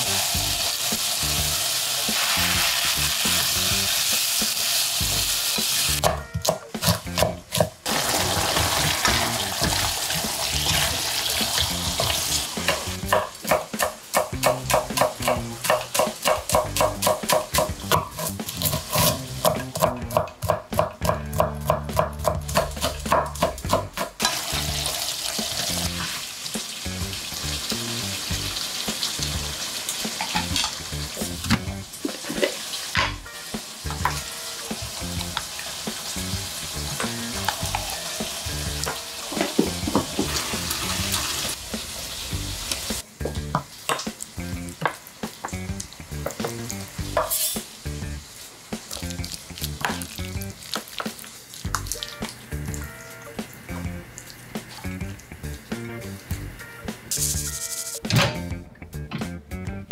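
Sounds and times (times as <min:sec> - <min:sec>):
food sizzling in a pan: 0:00.0 - 0:06.0, 0:06.8 - 0:19.9, 0:22.4 - 0:58.0.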